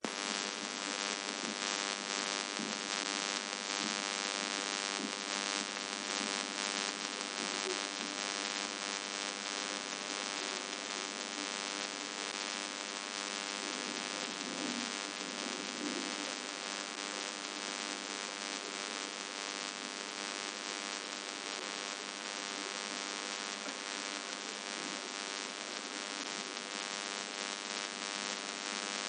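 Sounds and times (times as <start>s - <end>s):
buzzing hum: 0.0s - 29.0s
static hiss: 0.0s - 29.0s.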